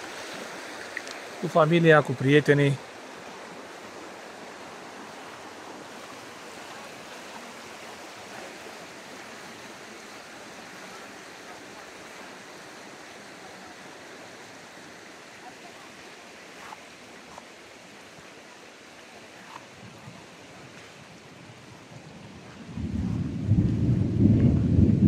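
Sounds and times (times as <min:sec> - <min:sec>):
river flowing: 0:00.0 - 0:23.7.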